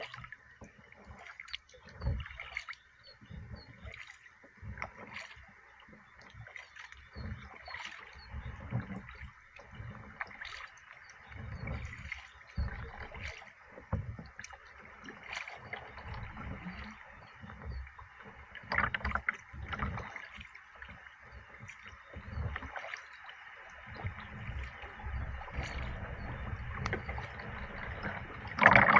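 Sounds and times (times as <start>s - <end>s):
paddle strokes splashing water: 0.0s - 28.9s
water gurgling along hull: 0.0s - 28.9s.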